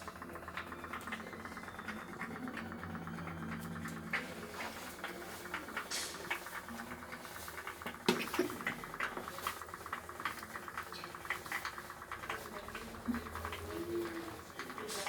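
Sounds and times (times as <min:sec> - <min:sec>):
toy steam boat ticking: 0:00.0 - 0:15.0.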